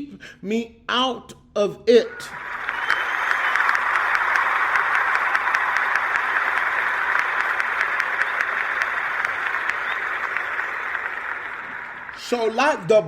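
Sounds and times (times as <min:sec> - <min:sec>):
crowd applause: 0:02.2 - 0:13.0.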